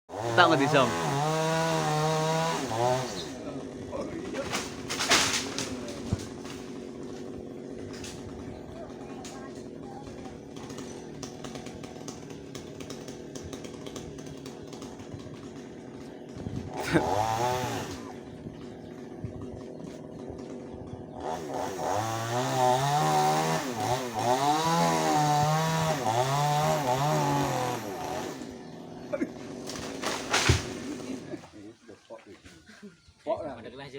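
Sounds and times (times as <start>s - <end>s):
chainsaw cutting wood: 0.1s - 31.4s
chainsaw idling and revving: 0.1s - 31.6s.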